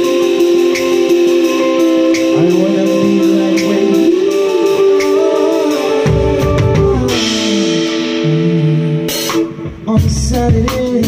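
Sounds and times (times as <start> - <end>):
electric guitar chords: 0.0 - 11.0
man singing into a microphone: 0.8 - 11.0.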